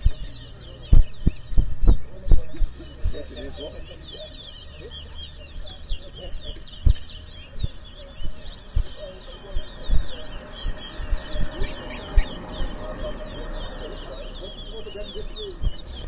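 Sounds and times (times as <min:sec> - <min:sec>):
dull low thumps: 0:00.0 - 0:16.0
finches chirping song: 0:00.0 - 0:16.0.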